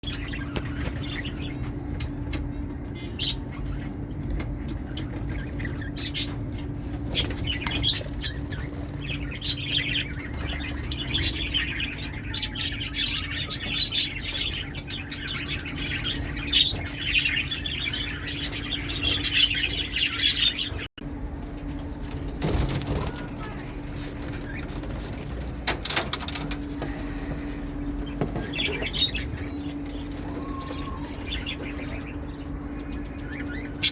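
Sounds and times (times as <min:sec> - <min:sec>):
lovebirds chattering and squawking: 0:00.0 - 0:20.9, 0:22.5 - 0:33.9
steady low hum: 0:00.0 - 0:33.9.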